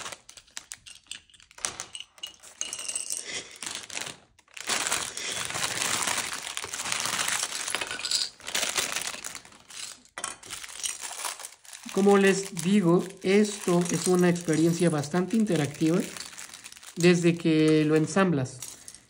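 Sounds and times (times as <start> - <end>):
plastic pieces clinking and rattling: 0.0 - 19.0.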